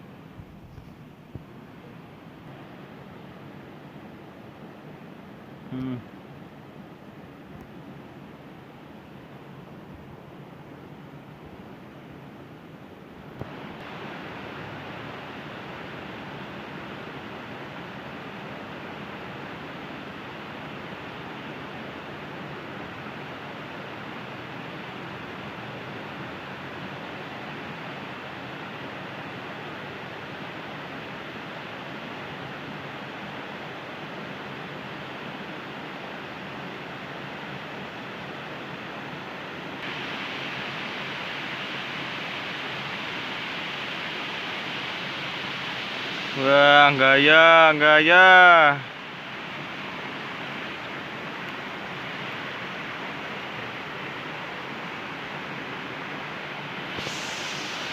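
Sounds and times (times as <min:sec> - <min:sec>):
water flowing in a canal: 0:00.0 - 0:57.9.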